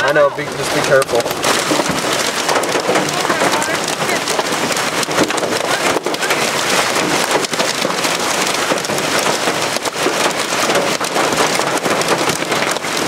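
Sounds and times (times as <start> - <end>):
hailstones knocking on car: 0.0 - 13.0
heavy rain on car roof: 0.0 - 13.0.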